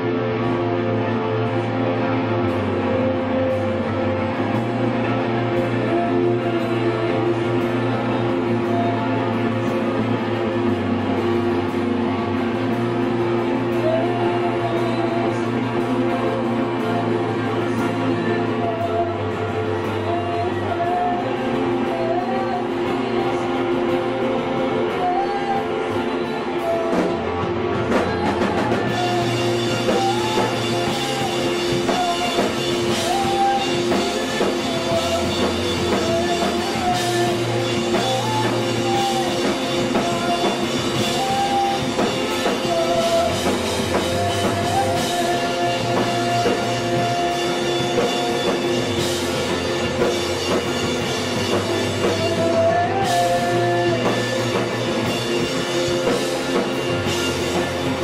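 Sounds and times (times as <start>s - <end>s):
guitar melody rising and falling: 0.0s - 58.0s
rock band playing: 0.0s - 58.0s.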